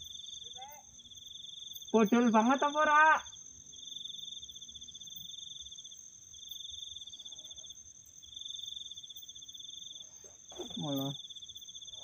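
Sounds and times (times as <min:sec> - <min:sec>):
continuous high insect whine: 0:00.0 - 0:12.0
pulsed high insect trill: 0:00.0 - 0:12.0.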